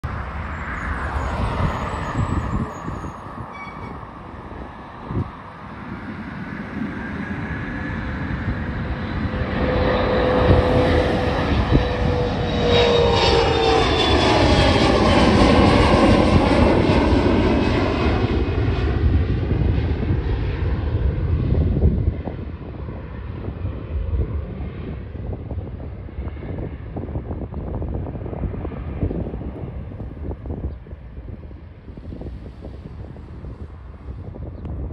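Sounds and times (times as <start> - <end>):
jet roar with falling whine: 0.0 - 34.9.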